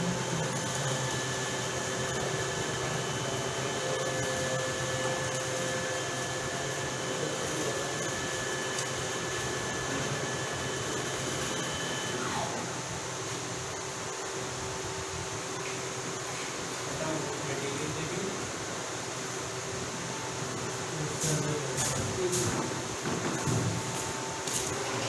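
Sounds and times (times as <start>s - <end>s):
high steady whines: 0.0s - 25.0s
motors whirring hum: 0.0s - 25.0s.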